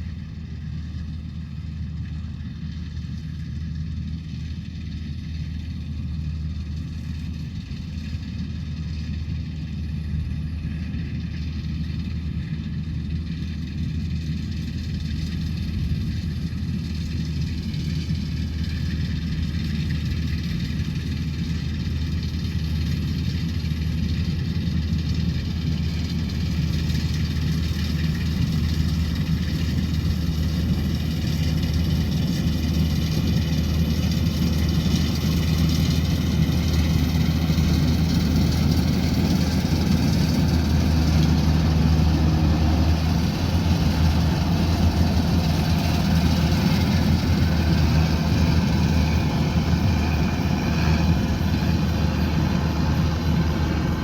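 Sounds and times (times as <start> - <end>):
harvester engine droning: 0.0 - 54.0.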